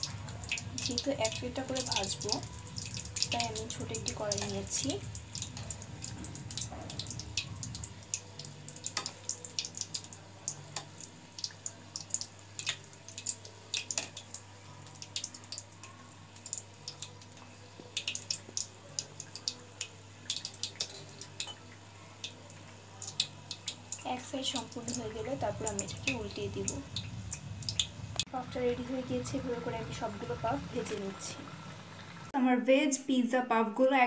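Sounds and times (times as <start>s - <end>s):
oil sizzling with pops: 0.0s - 32.3s.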